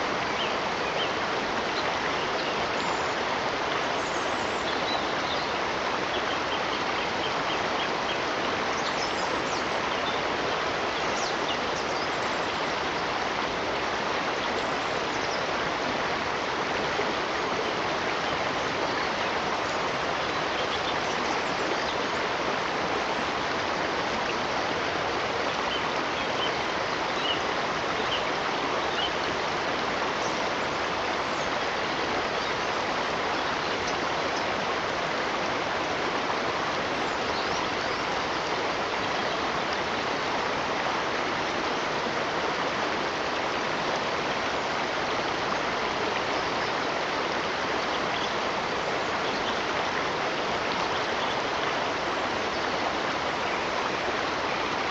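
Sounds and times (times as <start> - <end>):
stream of water rushing: 0.0 - 54.9.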